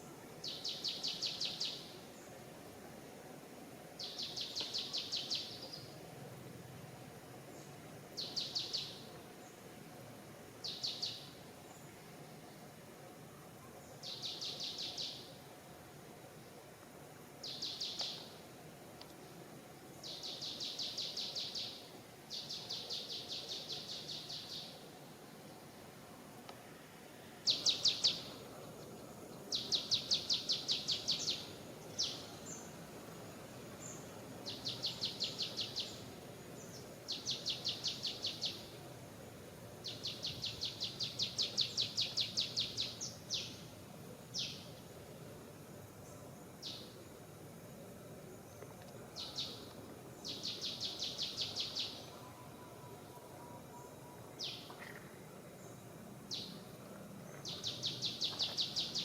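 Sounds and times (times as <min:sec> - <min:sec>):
low background noise: 0:00.0 - 0:59.0.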